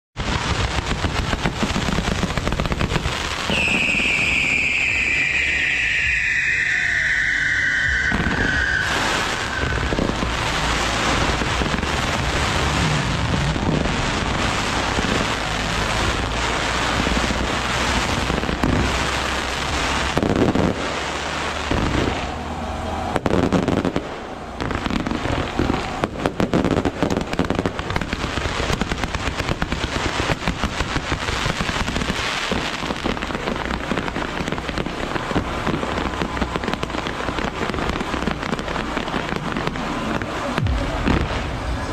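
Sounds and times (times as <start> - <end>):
firecrackers popping: 0.2 - 41.9.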